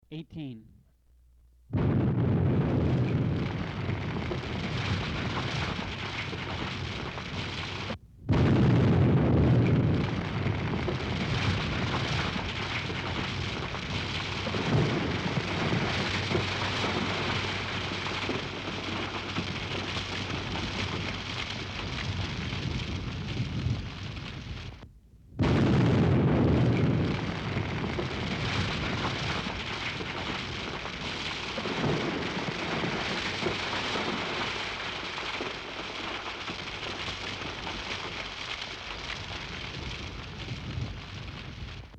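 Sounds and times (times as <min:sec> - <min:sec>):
explosion boom and rumble: 0:01.7 - 0:41.9.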